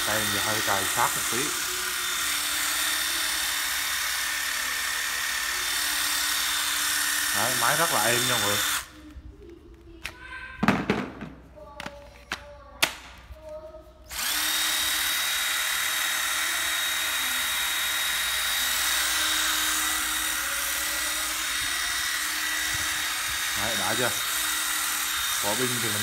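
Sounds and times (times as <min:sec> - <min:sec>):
impact driver motor whine: 0:00.0 - 0:09.0, 0:14.1 - 0:26.0.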